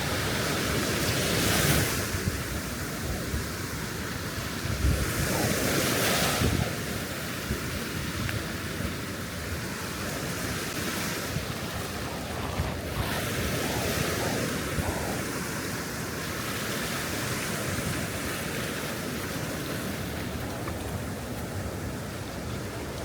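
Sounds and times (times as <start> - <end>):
sea waves breaking on beach: 0.0 - 23.0
wind buffeting microphone: 0.0 - 23.0.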